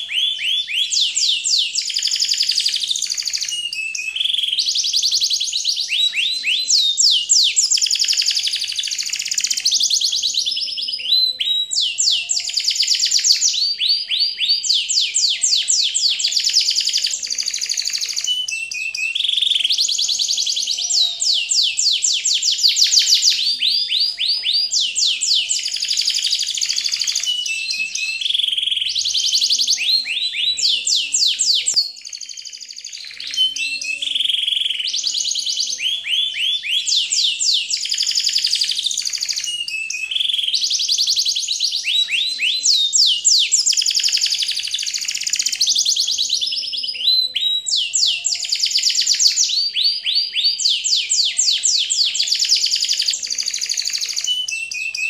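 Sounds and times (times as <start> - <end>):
bird trilling high chirps: 0.0 - 55.0.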